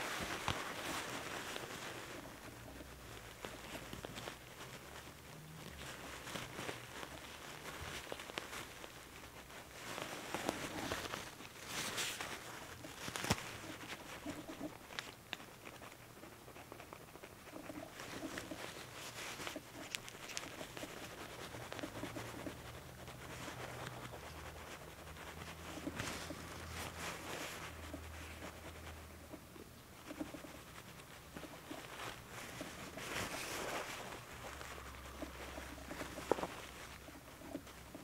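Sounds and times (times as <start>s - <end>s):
tissue paper rustling: 0.0s - 15.8s, 17.7s - 29.1s, 30.0s - 38.0s.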